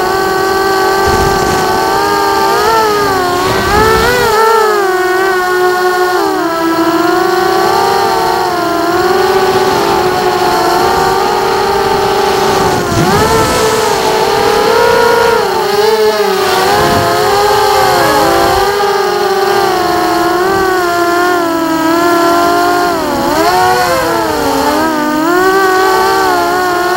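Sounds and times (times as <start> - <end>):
drone motors whining: 0.0 - 26.9.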